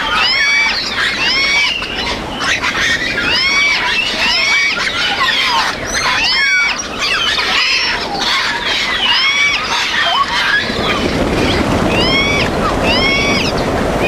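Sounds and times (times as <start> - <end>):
parrots whistling and squawking: 0.0 - 13.6.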